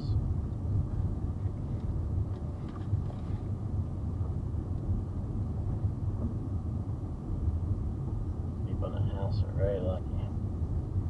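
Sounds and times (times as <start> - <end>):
car tyres and engine rumble: 0.0 - 11.0.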